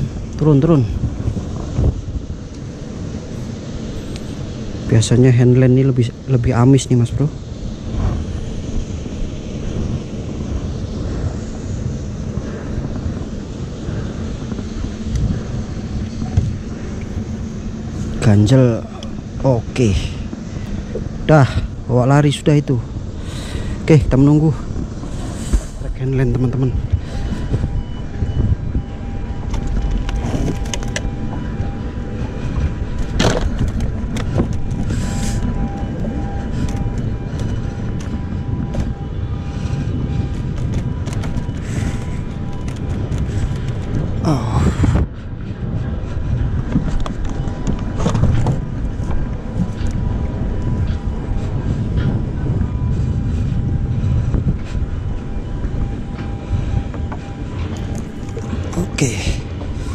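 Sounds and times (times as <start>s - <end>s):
faint steady hum: 0.0s - 59.9s
low rumble: 0.0s - 59.9s
wind buffeting microphone: 0.0s - 59.9s.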